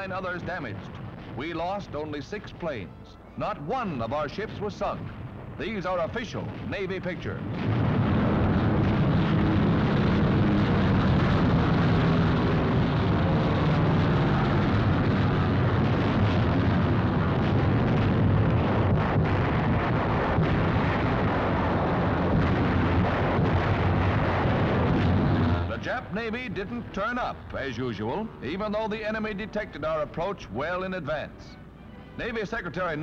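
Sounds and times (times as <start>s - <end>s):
explosions: 0.0s - 2.7s, 4.0s - 30.1s
anti-aircraft fire: 0.0s - 31.3s
aircraft engines droning: 0.0s - 33.0s.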